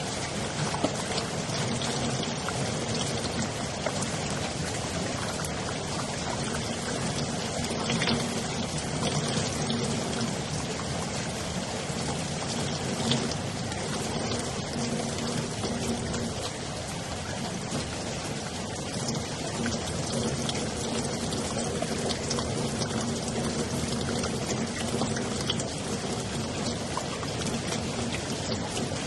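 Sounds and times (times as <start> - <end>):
drops ticking and dripping: 0.0 - 29.0
steady rain hiss: 0.0 - 29.0.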